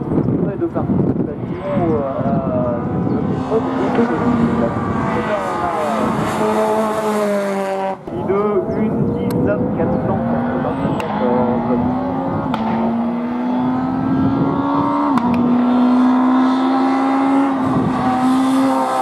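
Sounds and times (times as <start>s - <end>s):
race car engine accelerating: 1.3s - 19.0s.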